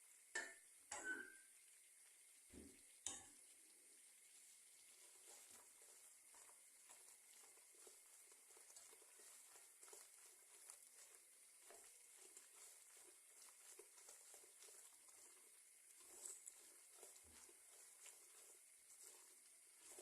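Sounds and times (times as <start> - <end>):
pan hissing on gas stove: 0.0 - 20.0.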